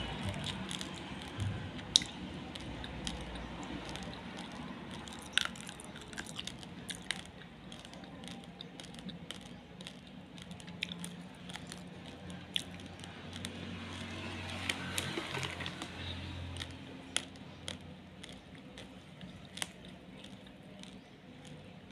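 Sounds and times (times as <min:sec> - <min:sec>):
rice grains crunched by chewing: 0:00.0 - 0:21.9.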